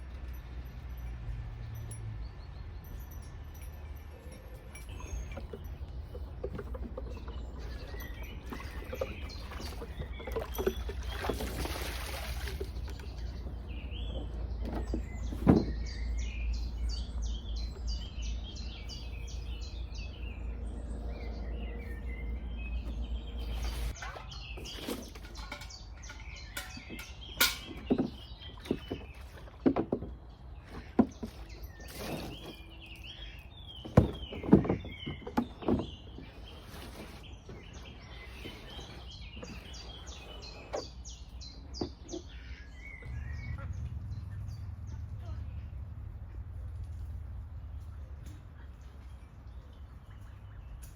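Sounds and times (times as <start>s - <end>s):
small birds chirping: 1.7s - 50.9s.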